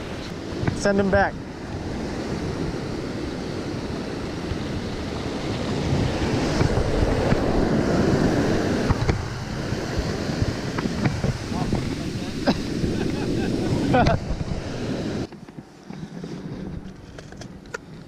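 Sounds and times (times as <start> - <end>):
surf washing over sand: 0.0 - 15.3
wind buffeting microphone: 0.0 - 18.0.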